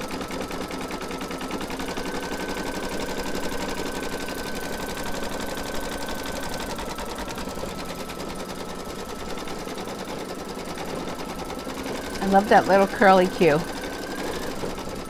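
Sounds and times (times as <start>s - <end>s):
embroidery machine needle chatter: 0.0s - 15.0s.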